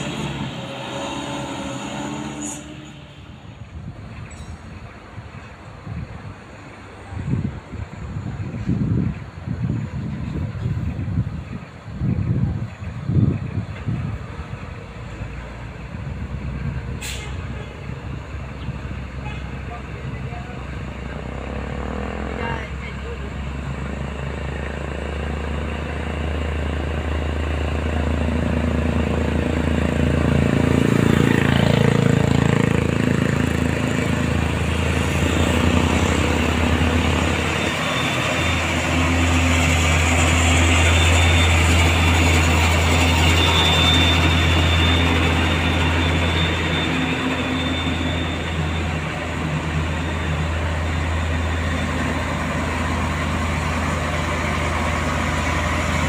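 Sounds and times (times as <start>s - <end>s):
diesel truck engine drone: 0.0s - 56.0s.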